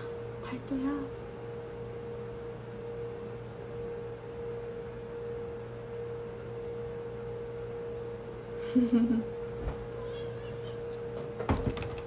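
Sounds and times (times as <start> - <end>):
faint low hum: 0.0 - 12.0
steady background hum: 0.0 - 12.0.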